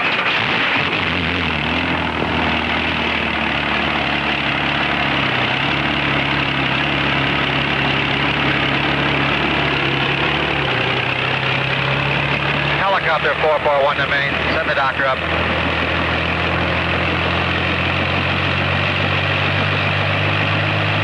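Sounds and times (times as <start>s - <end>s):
heavy engine humming: 0.0s - 21.0s.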